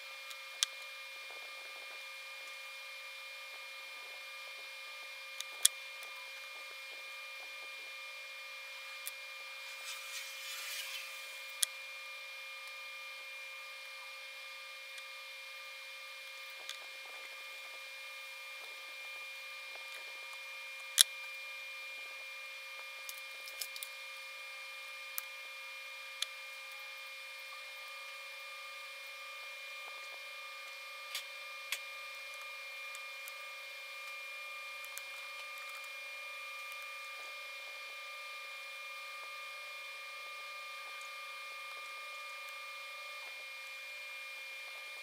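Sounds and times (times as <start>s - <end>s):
faint high hum: 0.0s - 45.0s.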